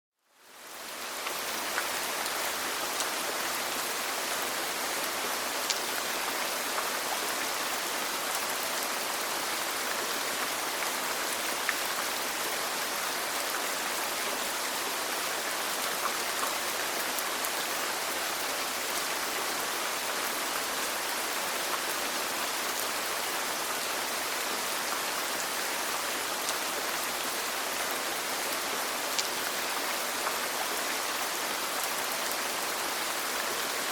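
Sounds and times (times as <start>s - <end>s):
steady rain hiss: 0.2s - 33.9s.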